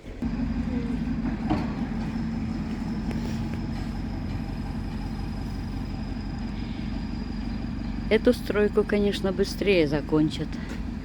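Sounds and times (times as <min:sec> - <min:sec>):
engine hum: 0:00.0 - 0:11.0
road noise: 0:00.1 - 0:11.0.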